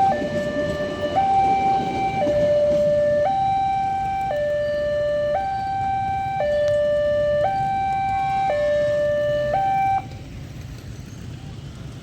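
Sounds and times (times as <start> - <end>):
two-tone siren: 0.0 - 10.2.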